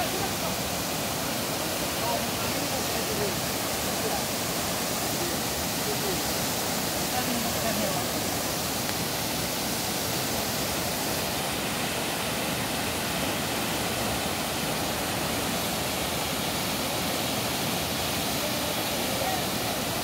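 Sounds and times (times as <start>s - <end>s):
waterfall rushing over boulders: 0.0s - 20.0s.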